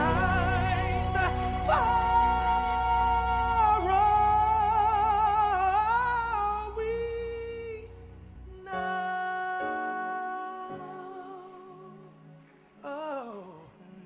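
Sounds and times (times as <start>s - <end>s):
low musical accompaniment: 0.0s - 14.0s.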